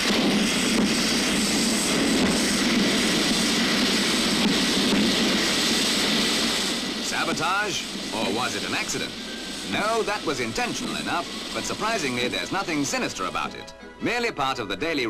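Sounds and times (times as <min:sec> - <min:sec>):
fireworks burning with rushing roar: 0:00.0 - 0:15.0.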